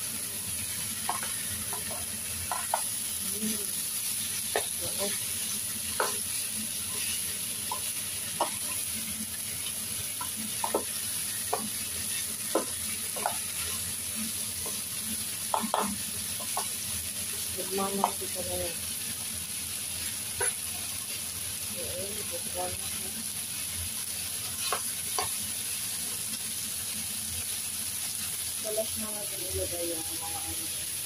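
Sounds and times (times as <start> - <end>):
meat and onions sizzling in pan: 0.0 - 31.0.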